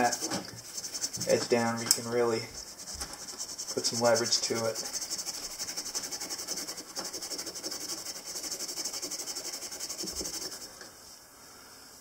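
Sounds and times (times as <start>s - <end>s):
steel wool scrubbing metal blade: 0.0s - 10.7s.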